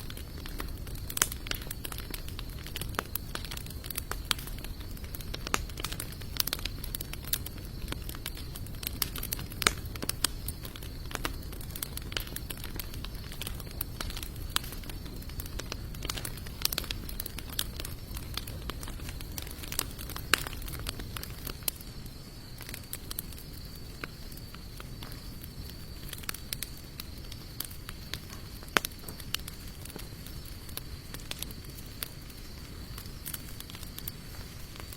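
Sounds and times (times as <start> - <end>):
campfire crackling: 0.0 - 34.9
fire popping and snapping: 0.0 - 34.9
low rumble of flames: 0.0 - 34.9.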